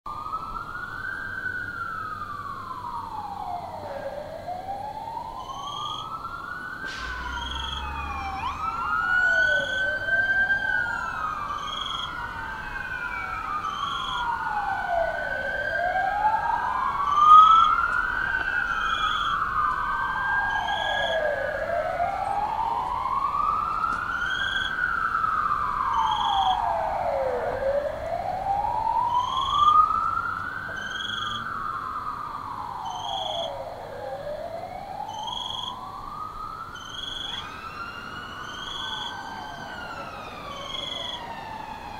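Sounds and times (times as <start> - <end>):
ambulance siren wailing: 0.1 - 41.9.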